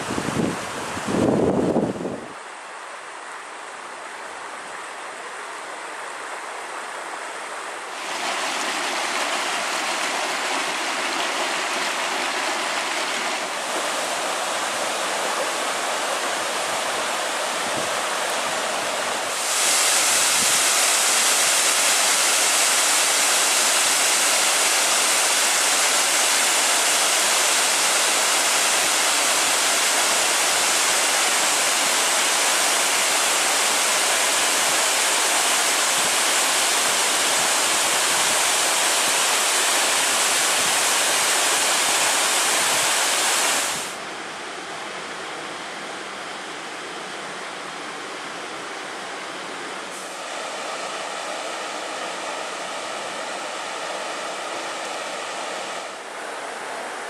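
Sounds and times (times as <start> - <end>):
waterfall roaring: 0.0 - 57.0
stream running over rocks: 5.5 - 44.3, 47.9 - 57.0.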